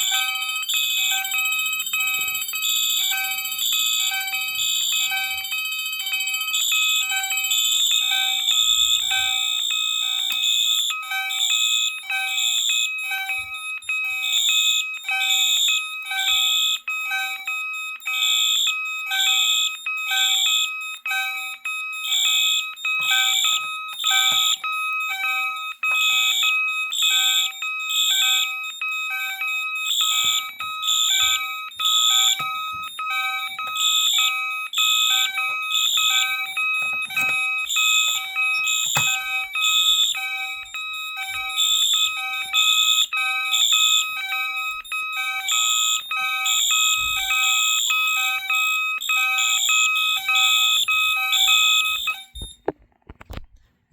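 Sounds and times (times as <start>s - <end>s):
electronic fire alarm horns: 0.0s - 52.7s.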